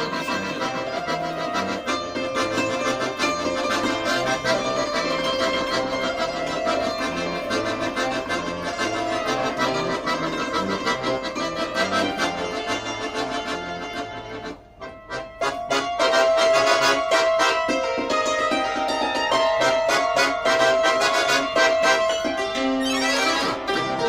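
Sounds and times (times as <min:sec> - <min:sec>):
accordion playing a tune: 0:00.0 - 0:24.0
rhythmic bass pattern: 0:00.0 - 0:24.0.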